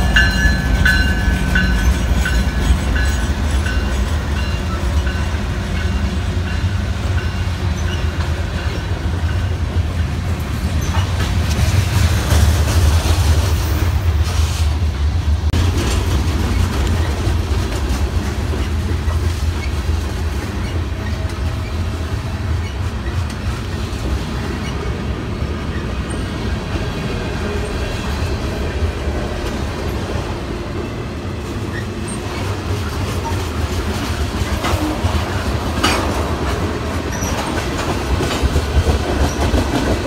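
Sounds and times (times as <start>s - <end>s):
clickety-clack over rail joints: 0.0s - 14.6s, 15.4s - 40.0s
train wheels rumbling on rails: 0.0s - 40.0s.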